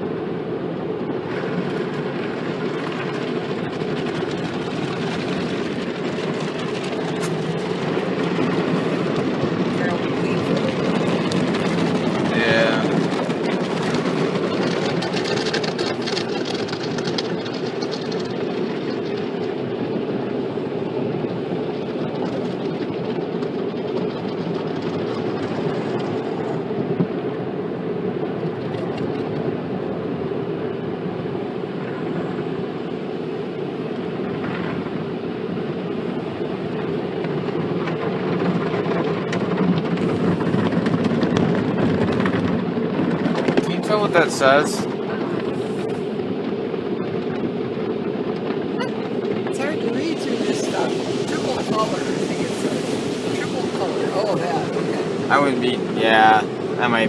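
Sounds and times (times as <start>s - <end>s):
car wash spraying water: 1.2s - 57.0s.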